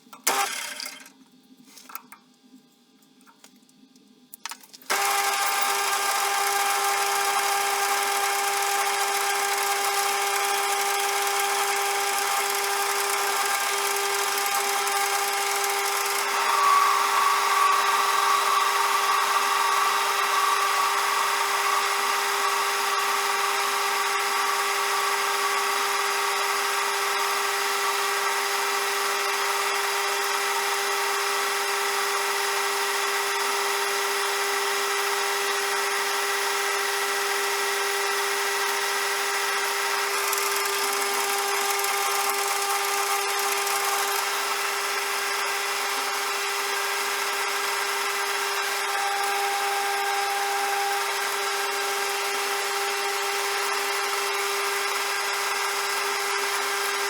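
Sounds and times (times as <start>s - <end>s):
metal lathe whining: 4.9s - 57.0s.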